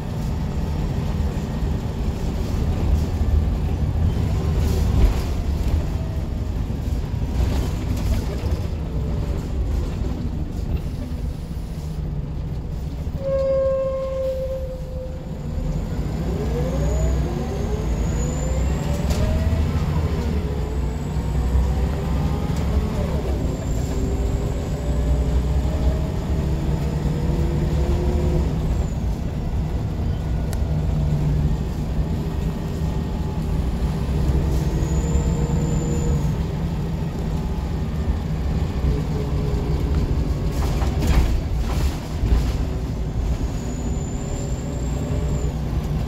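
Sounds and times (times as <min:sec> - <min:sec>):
bus engine: 0:00.0 - 0:46.0.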